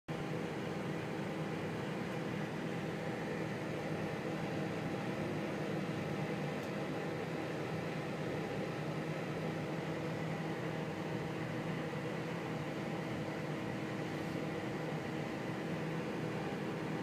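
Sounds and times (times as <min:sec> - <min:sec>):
microwave fan whirring: 0:00.1 - 0:17.0
microwave oven hum: 0:00.1 - 0:17.0.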